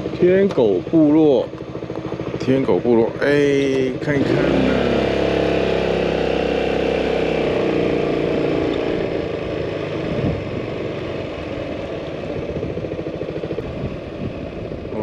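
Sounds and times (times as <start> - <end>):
road and wind noise: 0.0 - 15.0
scooter engine running: 0.0 - 15.0.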